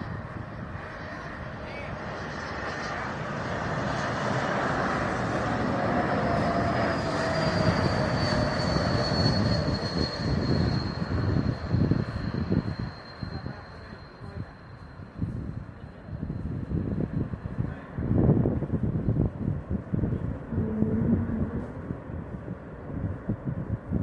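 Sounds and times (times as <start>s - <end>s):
jet engine rumble and whine: 0.0s - 24.0s.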